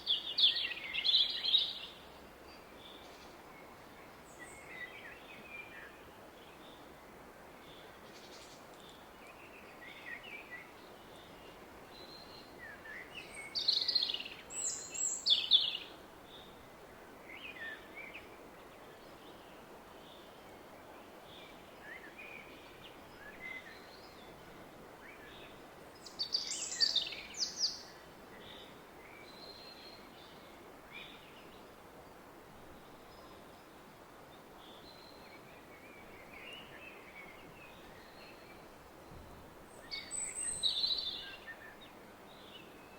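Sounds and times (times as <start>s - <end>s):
woodland birds singing: 0.0s - 32.2s, 32.8s - 42.9s.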